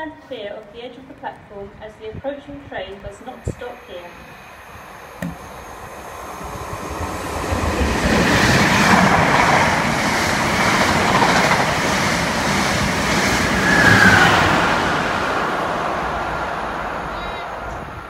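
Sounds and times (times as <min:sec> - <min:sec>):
train passing at speed: 0:03.3 - 0:18.0.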